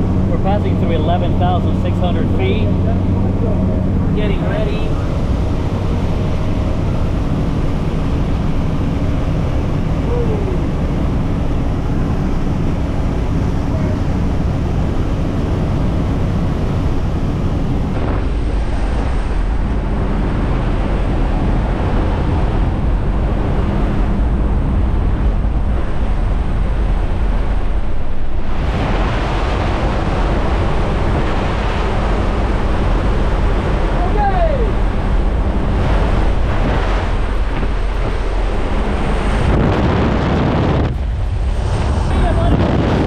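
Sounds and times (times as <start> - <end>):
loud rush of noise: 0.0 - 43.0
plane engine and propeller drone: 0.0 - 43.0.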